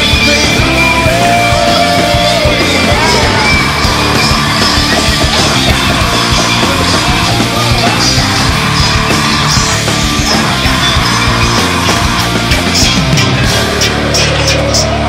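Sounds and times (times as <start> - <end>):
loud punk rock music: 0.0 - 15.0
shouted vocals: 0.0 - 15.0.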